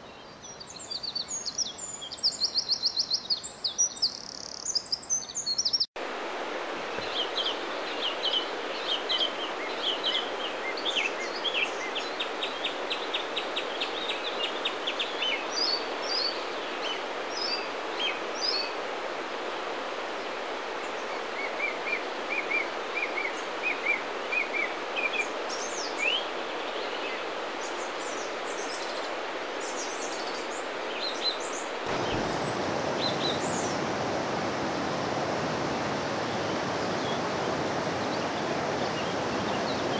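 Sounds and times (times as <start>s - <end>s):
songbirds singing: 0.0s - 5.9s, 6.8s - 18.8s, 20.2s - 34.0s, 34.7s - 39.9s
background hiss: 0.0s - 39.9s
river running over stones: 6.0s - 39.9s.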